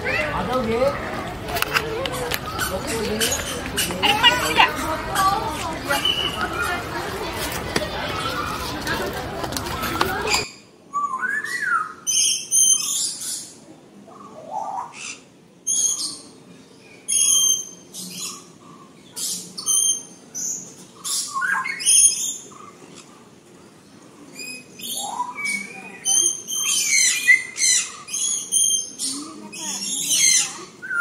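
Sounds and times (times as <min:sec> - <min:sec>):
birds calling shrilly: 0:01.8 - 0:07.3, 0:09.7 - 0:13.6, 0:14.2 - 0:23.3, 0:24.3 - 0:31.0.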